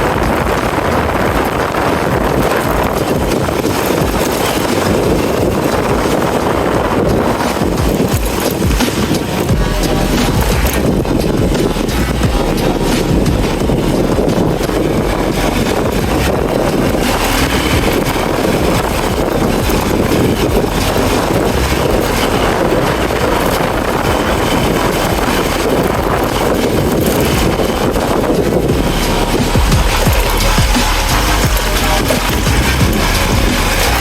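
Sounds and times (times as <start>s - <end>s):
road and engine noise: 0.0s - 34.0s
wind rushing over microphone: 0.0s - 34.0s.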